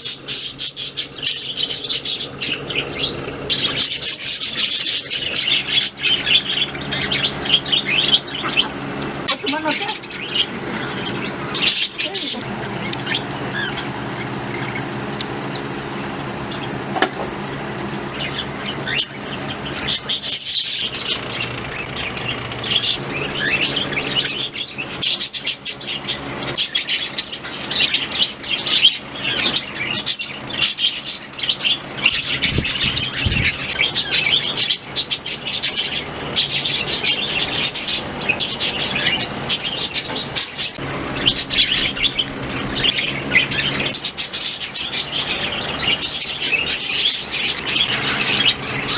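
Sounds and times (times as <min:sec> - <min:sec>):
budgies chirping: 0:00.0 - 0:48.9
steady low hum: 0:00.0 - 0:48.9.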